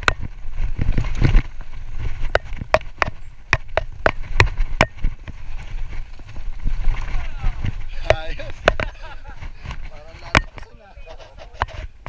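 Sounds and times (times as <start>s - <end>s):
tyres rumbling on dirt: 0.0s - 12.0s
wind: 0.0s - 12.0s.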